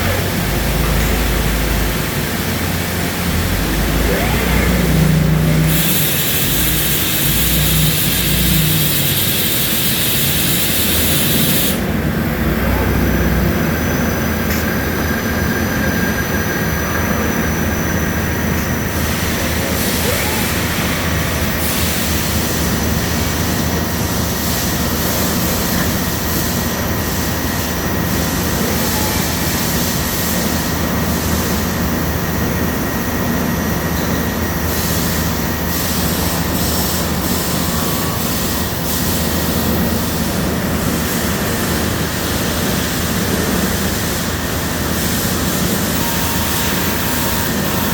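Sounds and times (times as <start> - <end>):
machine tools running: 0.0 - 47.9.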